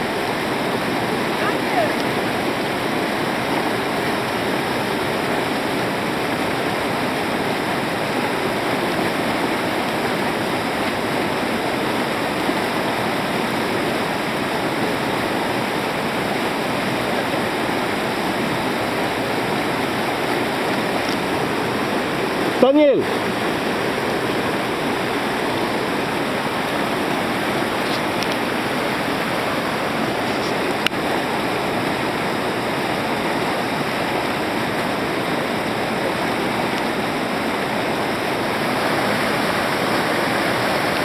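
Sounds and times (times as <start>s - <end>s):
river rushing over boulders: 0.0s - 41.0s.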